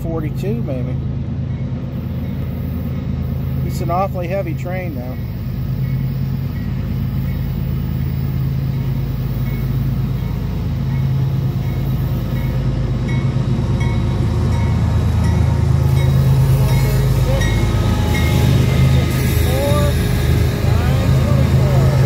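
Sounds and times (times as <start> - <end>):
crossing bell ringing: 0.0 - 22.0
diesel locomotive engines droning: 0.0 - 22.0.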